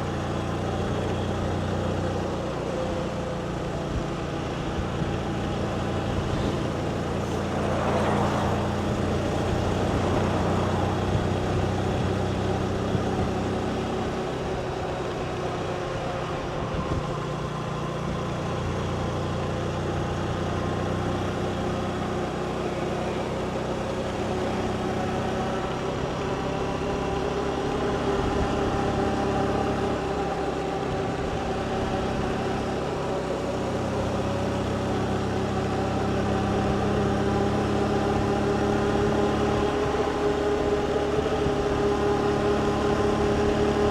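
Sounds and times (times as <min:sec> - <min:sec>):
motorbike engine cruising: 0:00.0 - 0:43.9
road and wind noise: 0:00.0 - 0:43.9.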